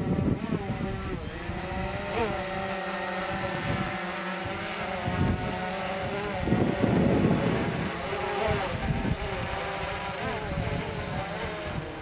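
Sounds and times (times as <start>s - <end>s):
drone motors whining: 0.0s - 12.0s
wind buffeting microphone: 0.0s - 12.0s.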